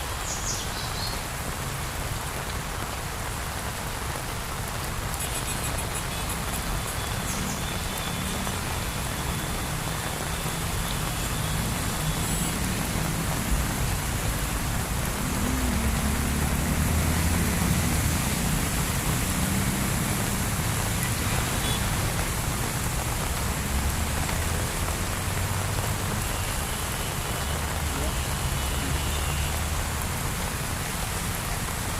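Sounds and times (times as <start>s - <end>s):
heavy rain pouring: 0.0s - 31.9s
vehicle engines in slow traffic: 0.0s - 31.9s.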